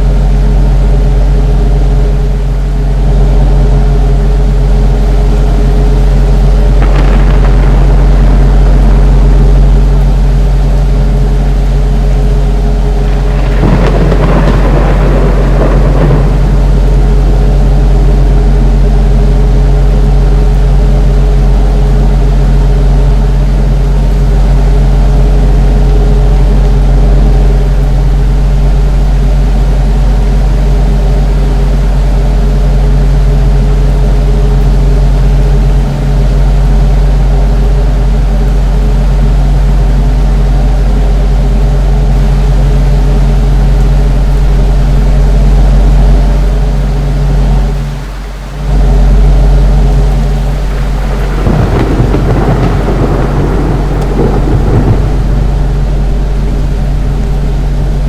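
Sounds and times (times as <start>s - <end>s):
ceiling fan humming: 0.0s - 58.0s.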